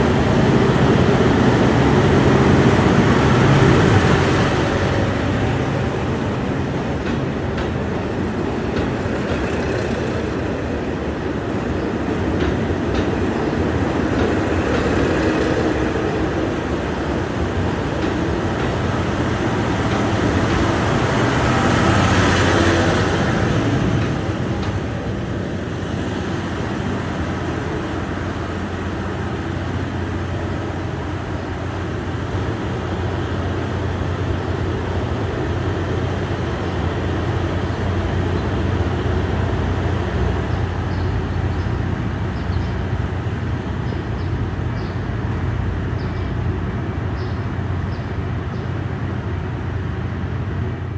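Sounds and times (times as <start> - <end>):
diesel train engines running: 0.0 - 50.9
train wheels rolling on rails: 0.0 - 50.9.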